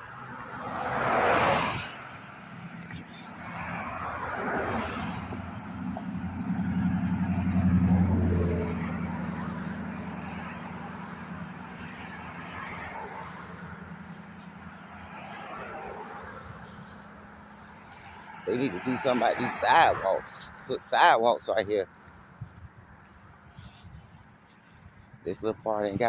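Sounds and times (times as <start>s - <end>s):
car passing by: 0.0s - 20.9s.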